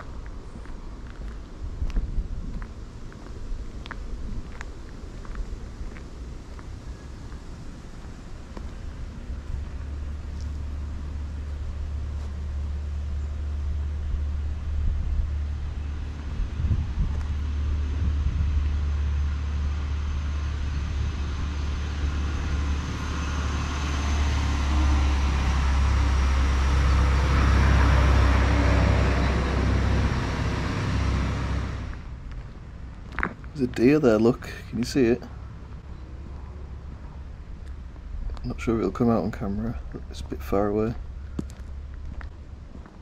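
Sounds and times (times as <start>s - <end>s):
passing vehicle engine rumble: 0.0s - 43.0s
steady deep rumble: 0.0s - 43.0s.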